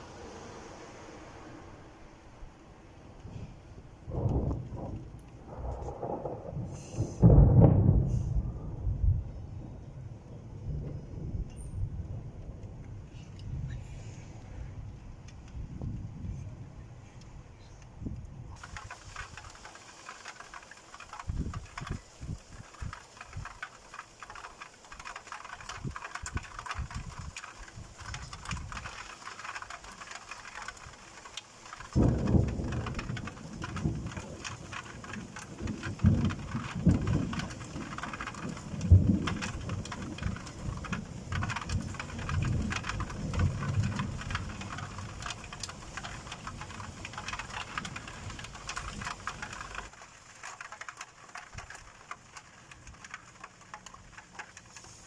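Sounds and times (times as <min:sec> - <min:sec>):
thunder rumbling: 0:00.0 - 0:17.0, 0:18.4 - 0:50.0
raindrops pattering: 0:00.0 - 0:55.0.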